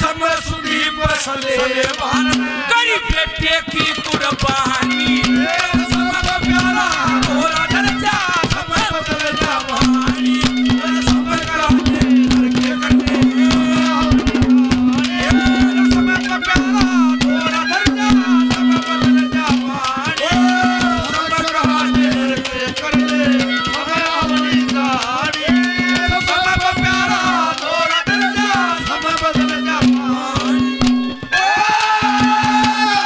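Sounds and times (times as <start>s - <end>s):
hand drums rhythm: 0.0s - 33.0s
harmonium melody: 0.0s - 33.0s.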